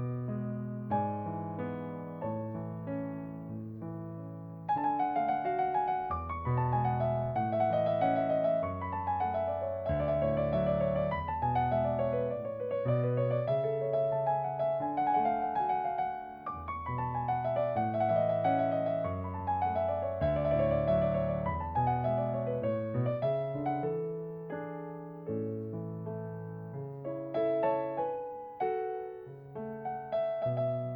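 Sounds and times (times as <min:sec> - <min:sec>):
gentle piano music: 0:00.0 - 0:30.9.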